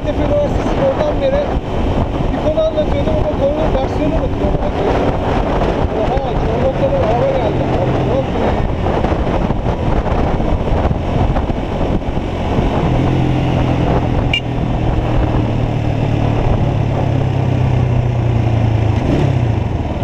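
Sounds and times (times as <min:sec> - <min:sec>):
low engine hum: 0:00.0 - 0:20.0
motorcycle engine running: 0:00.0 - 0:20.0
wind noise on microphone: 0:00.0 - 0:20.0.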